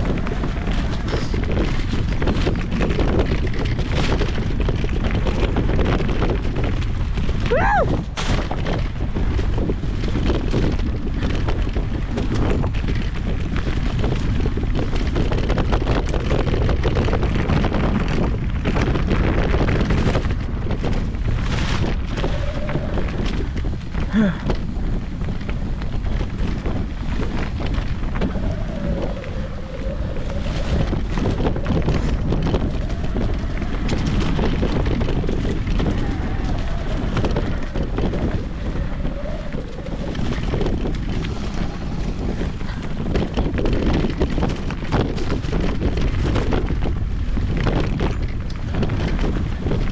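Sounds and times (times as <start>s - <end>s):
bike rattles and knocks: 0.0s - 49.9s
tyre noise on dirt: 0.0s - 49.9s
wind buffeting microphone: 0.0s - 49.9s.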